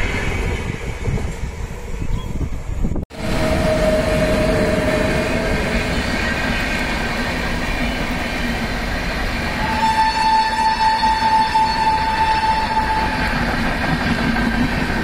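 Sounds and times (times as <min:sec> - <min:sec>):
express train passing at speed: 0:00.0 - 0:15.0.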